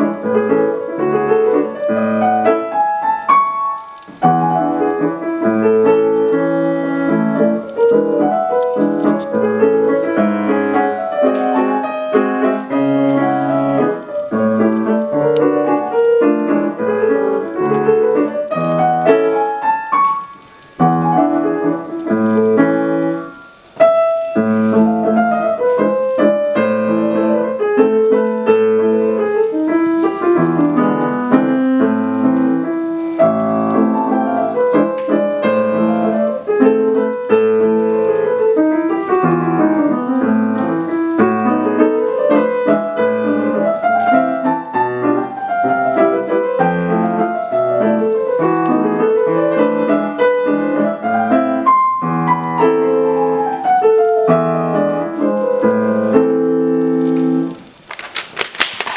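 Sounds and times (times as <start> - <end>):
grand piano classical piece: 0.0 - 58.9.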